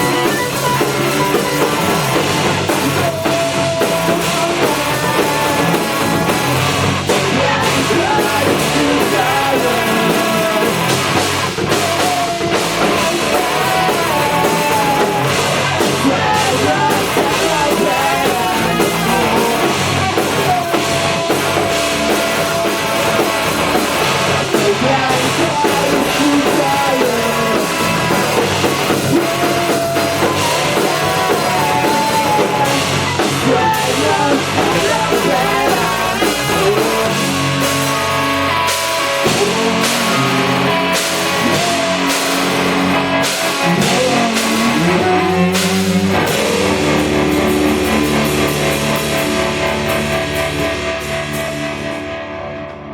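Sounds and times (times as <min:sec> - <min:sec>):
bass guitar: 0:00.0 - 0:52.9
drum kit beat: 0:00.0 - 0:52.9
electric guitar: 0:00.0 - 0:52.9.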